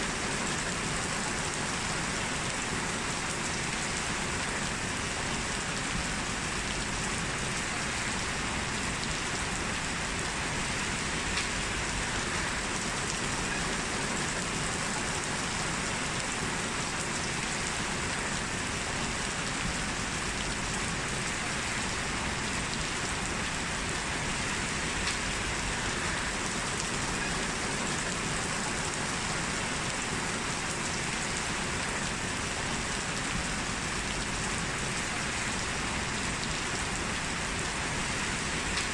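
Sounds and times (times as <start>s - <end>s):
heavy rain hissing: 0.1s - 38.9s.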